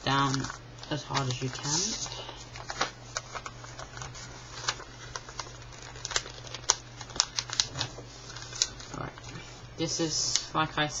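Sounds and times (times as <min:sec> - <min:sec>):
paper crinkling and crackling: 0:00.0 - 0:09.6
steady low hum: 0:00.0 - 0:11.0.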